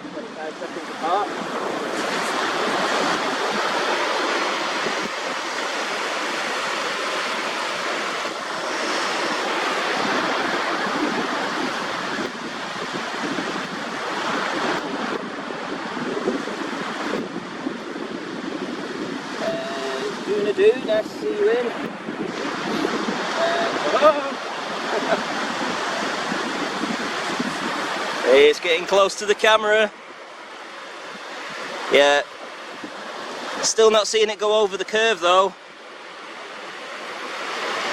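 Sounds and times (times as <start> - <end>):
sea waves washing on shore: 0.0 - 37.9.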